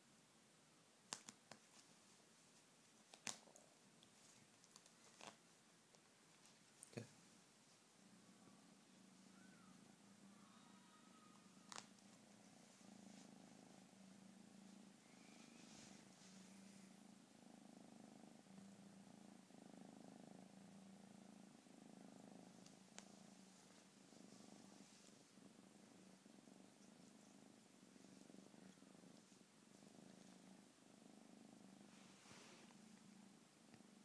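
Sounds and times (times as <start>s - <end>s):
kitten purring: 0.0s - 34.0s.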